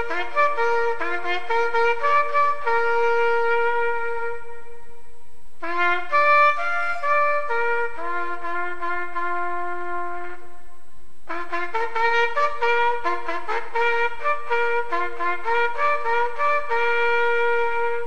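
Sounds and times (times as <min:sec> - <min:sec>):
slow trumpet melody: 0:00.0 - 0:18.0.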